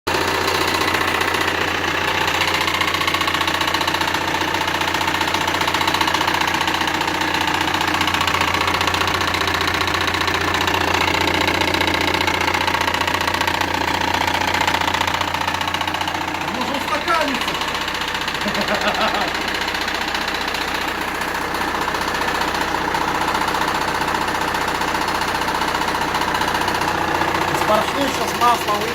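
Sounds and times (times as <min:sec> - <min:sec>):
car engine running: 0:00.1 - 0:28.9
loud rapid engine knocking: 0:00.1 - 0:28.9.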